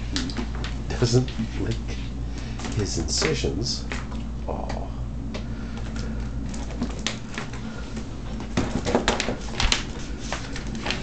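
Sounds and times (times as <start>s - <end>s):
dog paws on wooden floor: 0.0s - 4.4s, 6.5s - 11.0s
steady low hum: 0.0s - 11.0s.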